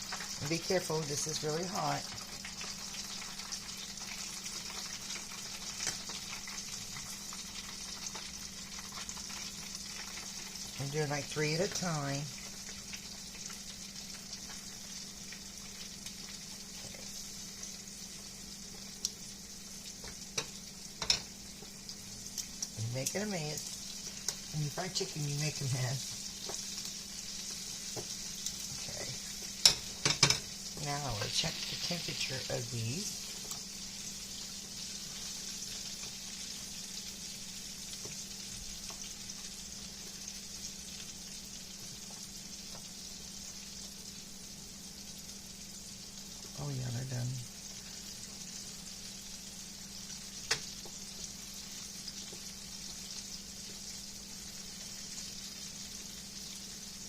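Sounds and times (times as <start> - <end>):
chicken deep-frying in oil: 0.0 - 57.0.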